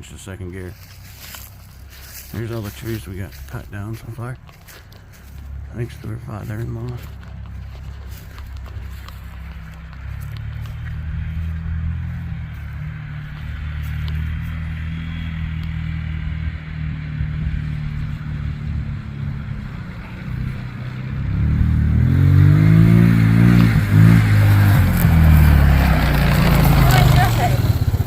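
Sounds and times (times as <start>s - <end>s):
small engine revving: 4.6s - 28.0s.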